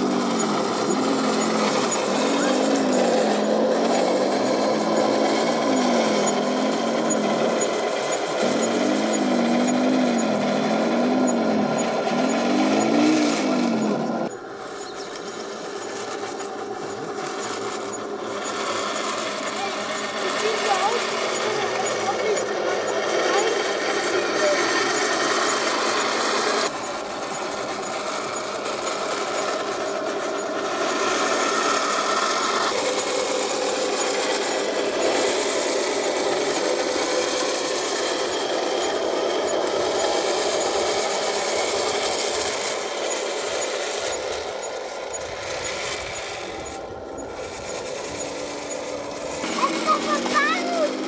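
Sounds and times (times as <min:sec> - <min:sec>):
motor whine: 0:00.0 - 0:51.0.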